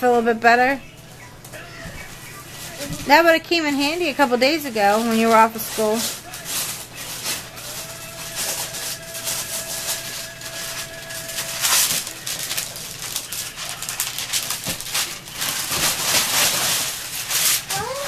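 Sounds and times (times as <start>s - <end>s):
wrapping paper tearing: 1.6s - 18.0s.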